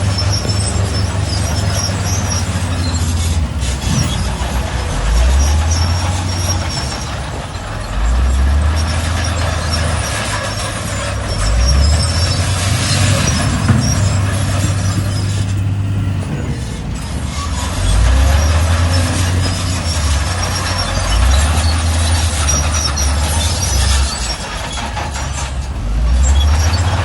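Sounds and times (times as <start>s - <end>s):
diesel machinery engine revving: 0.0s - 27.0s
high-pitched squeaks: 0.0s - 27.0s.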